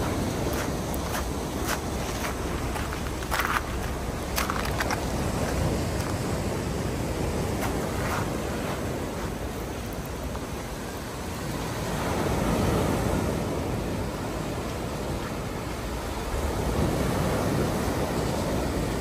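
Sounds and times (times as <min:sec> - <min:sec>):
surf washing onto beach: 0:00.0 - 0:19.0
wave breaking: 0:00.0 - 0:19.0
wind rumble on microphone: 0:00.0 - 0:19.0.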